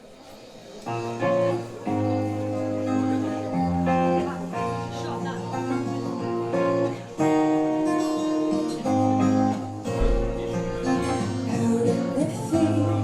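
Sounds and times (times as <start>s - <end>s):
strummed acoustic guitar: 0.8s - 13.0s.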